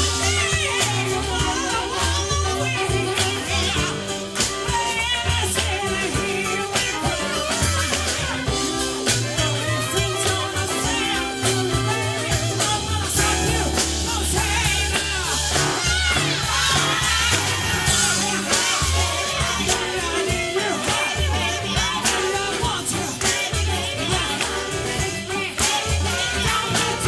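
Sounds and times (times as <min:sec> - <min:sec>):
live band playing soul rock: 0:00.0 - 0:27.0
person singing: 0:00.0 - 0:27.0.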